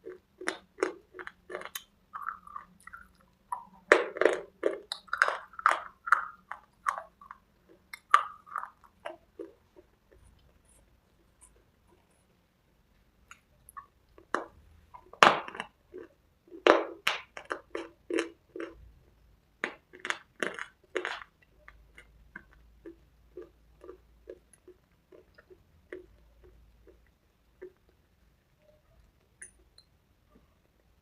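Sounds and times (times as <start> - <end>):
crunchy chewing: 0.0 - 12.3, 13.3 - 18.8, 19.6 - 28.1.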